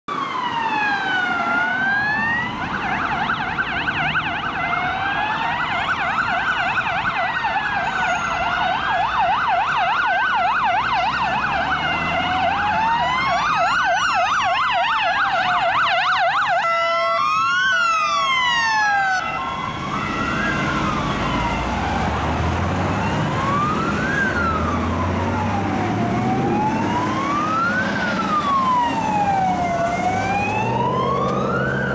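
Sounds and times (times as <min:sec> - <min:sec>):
police sirens wailing and yelping: 0:00.1 - 0:31.9
vehicle engines rumbling: 0:00.1 - 0:31.9.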